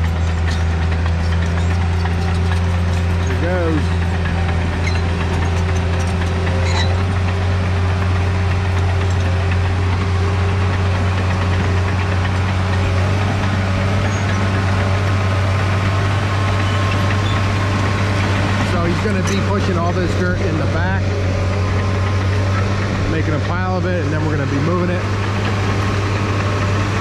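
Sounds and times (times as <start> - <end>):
bulldozer diesel engine droning: 0.0 - 27.0
dozer blade pushing dirt: 0.0 - 27.0.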